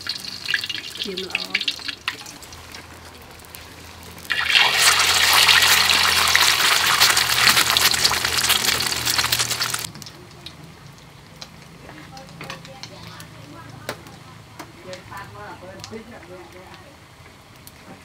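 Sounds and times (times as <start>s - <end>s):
egg sizzling in hot oil: 0.0s - 18.0s.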